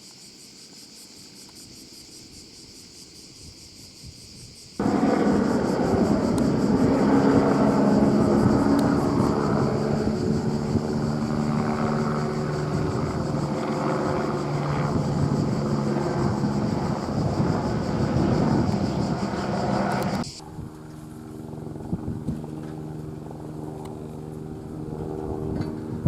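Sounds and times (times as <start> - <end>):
helicopter turbine and rotor: 4.8 - 26.0.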